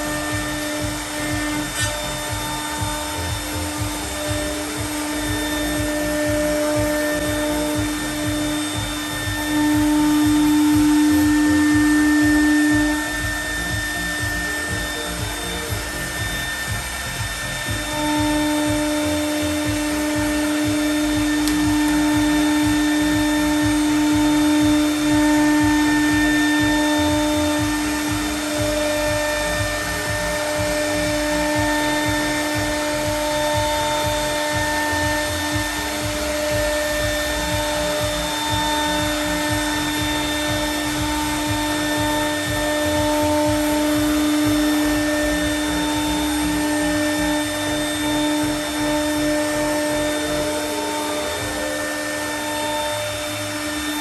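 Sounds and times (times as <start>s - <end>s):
router spindle running: 0.0s - 54.0s
rushing cutting noise: 0.0s - 54.0s.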